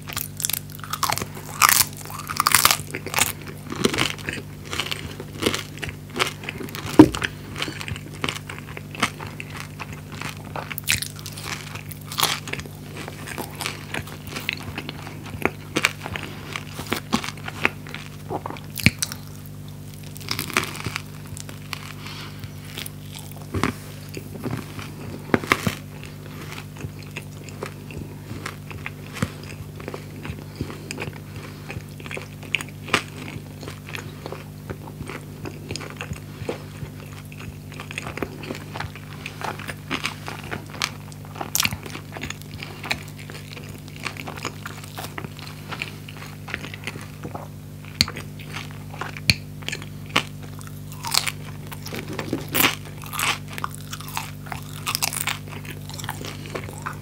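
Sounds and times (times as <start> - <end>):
crunchy bites and chewing: 0.0 - 57.0
faint low hum: 0.0 - 57.0.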